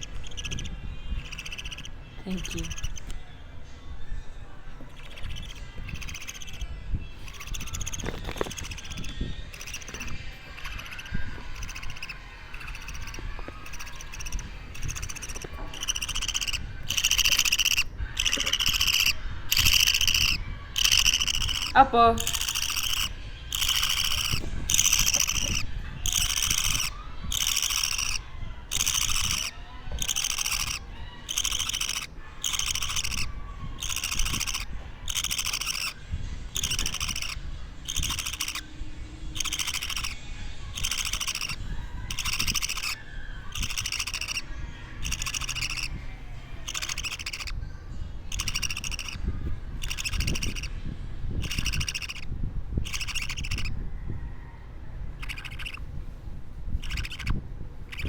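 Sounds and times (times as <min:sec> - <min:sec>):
budgerigar chick chirping: 0:00.0 - 0:03.2, 0:04.8 - 0:38.7, 0:39.3 - 0:50.8, 0:51.4 - 0:53.8, 0:55.2 - 0:55.8, 0:56.8 - 0:58.0.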